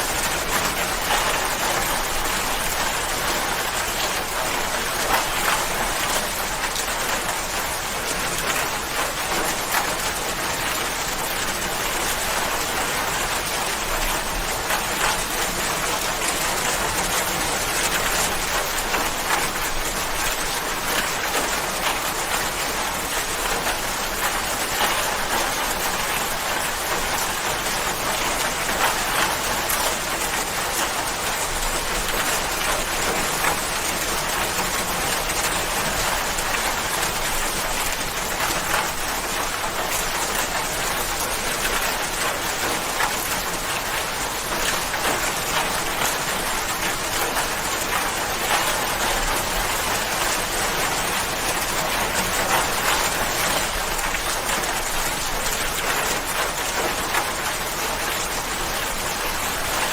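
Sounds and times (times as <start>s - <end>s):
heavy rain: 0.0s - 59.9s
raindrops pattering: 0.0s - 59.9s.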